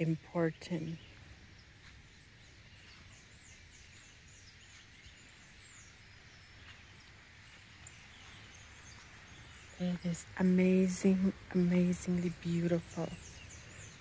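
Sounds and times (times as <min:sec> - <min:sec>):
bird chirping: 0:00.0 - 0:14.0
low outdoor rumble: 0:00.0 - 0:14.0.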